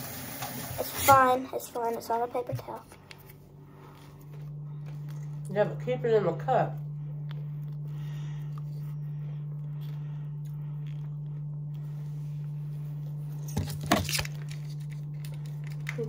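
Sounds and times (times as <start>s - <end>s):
steady low hum: 0.1s - 16.0s.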